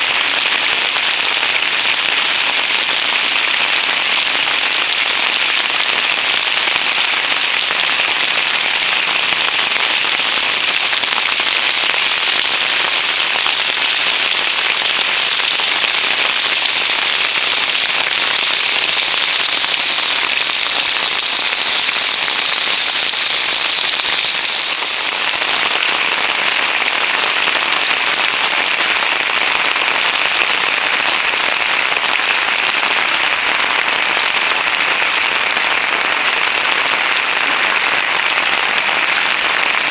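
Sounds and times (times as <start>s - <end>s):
heavy rain on flooded street: 0.0s - 39.9s.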